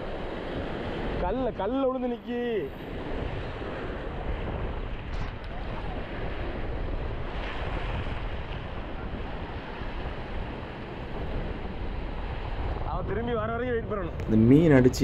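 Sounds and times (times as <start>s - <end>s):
sea surf washing in: 0.0s - 15.0s
wind buffeting microphone: 0.0s - 15.0s.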